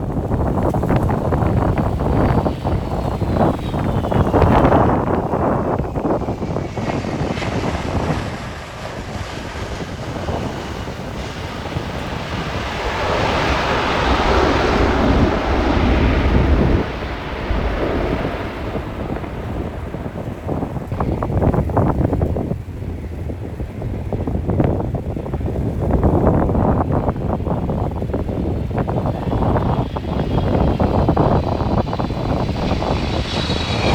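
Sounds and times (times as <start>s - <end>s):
jet engines passing: 0.0s - 33.9s
wind buffeting microphone: 0.0s - 33.9s.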